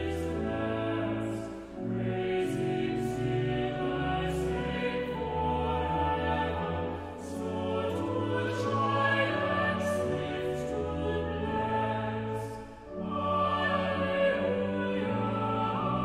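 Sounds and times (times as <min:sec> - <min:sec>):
choir singing a hymn: 0:00.0 - 0:16.0.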